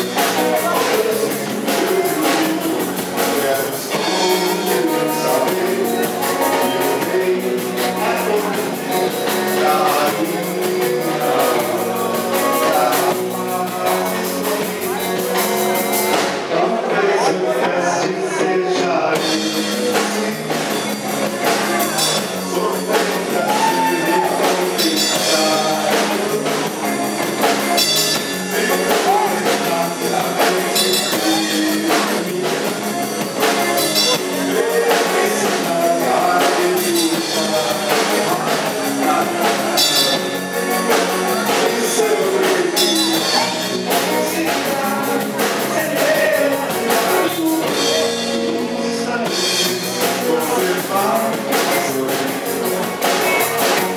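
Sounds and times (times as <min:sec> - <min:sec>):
lead vocal singing: 0:00.0 - 0:53.9
live rock band playing: 0:00.0 - 0:53.9.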